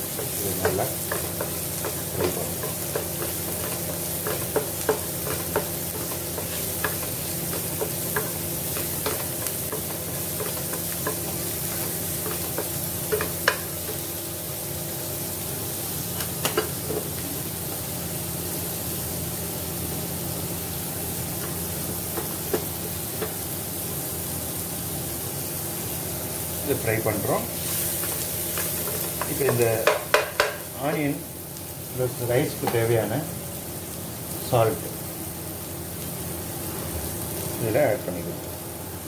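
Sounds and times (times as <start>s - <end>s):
onion sizzling in a pan: 0.0s - 39.0s.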